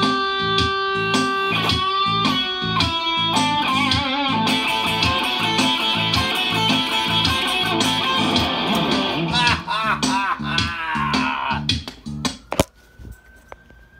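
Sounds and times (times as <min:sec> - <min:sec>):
electric guitar blues lead: 0:00.0 - 0:11.7.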